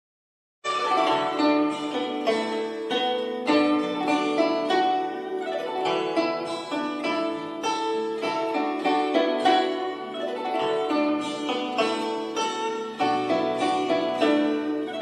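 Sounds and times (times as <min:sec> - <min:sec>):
plucked string music: 0:00.7 - 0:15.0.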